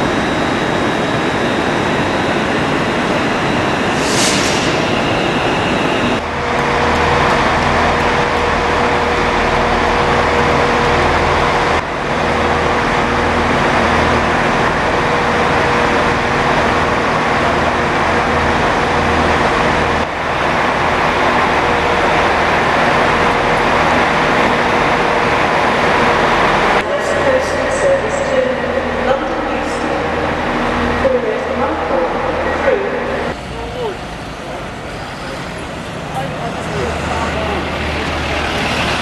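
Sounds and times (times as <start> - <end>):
diesel train engines idling: 0.0 - 39.0.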